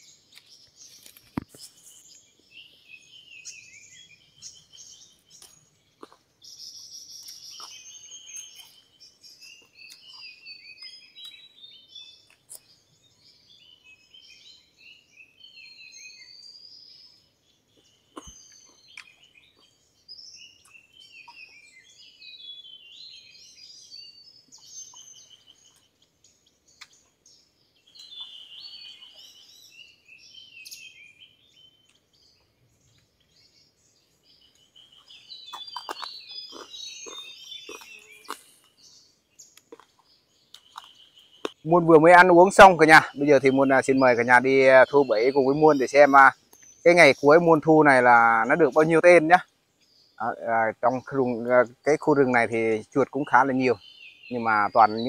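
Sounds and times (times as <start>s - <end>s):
forest birds chirping: 0.0s - 55.0s.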